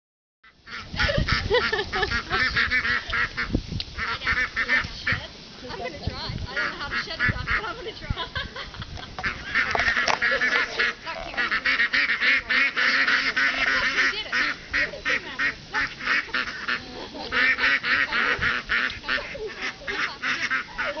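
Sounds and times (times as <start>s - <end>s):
ducks quacking: 0.4s - 21.0s.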